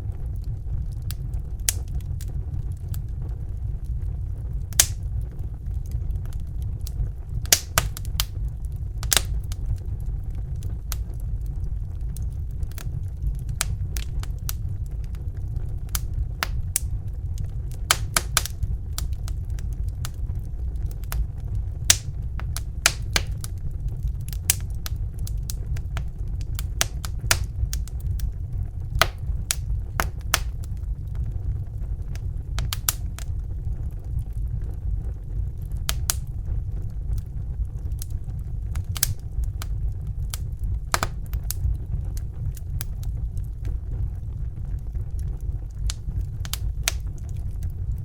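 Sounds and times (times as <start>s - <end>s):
fire low rumble: 0.0s - 48.0s
fire popping and snapping: 0.0s - 48.0s.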